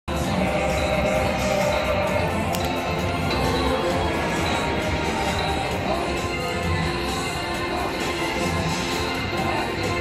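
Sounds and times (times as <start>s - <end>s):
slot machine bonus music: 0.5s - 10.0s.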